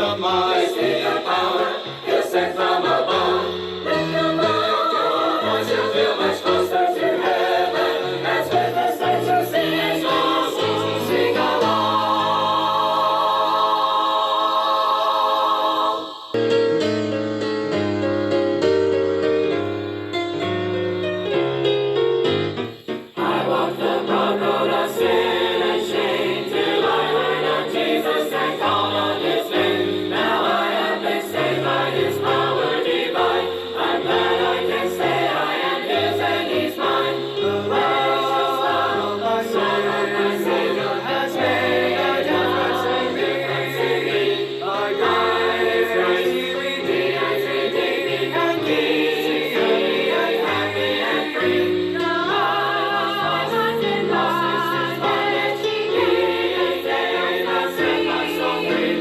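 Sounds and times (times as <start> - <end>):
group singing gospel song: 0.0 - 16.4, 23.0 - 59.0
piano: 0.0 - 59.0.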